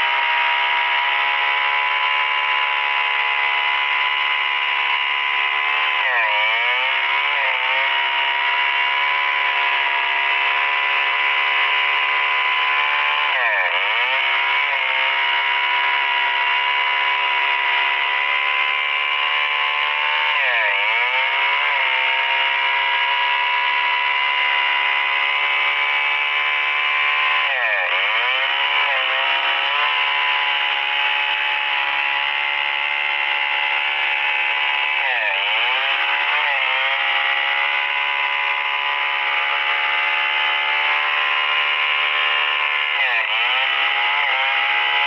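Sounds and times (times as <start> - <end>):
chainsaw cutting through log: 0.0 - 45.0.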